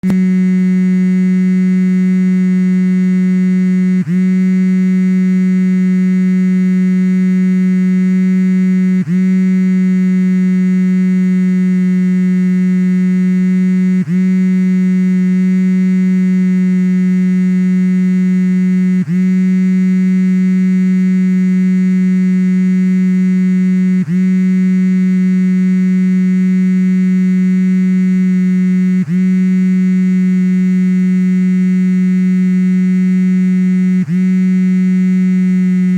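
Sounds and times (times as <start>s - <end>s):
phone vibration motor buzzing: 0.0s - 35.9s.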